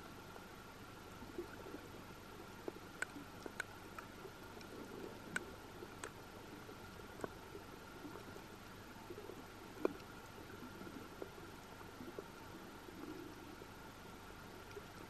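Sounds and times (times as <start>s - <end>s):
faint steady whine: 0.0s - 15.0s
low steady hiss: 0.0s - 15.0s
underwater clicks and crackles: 1.2s - 13.8s.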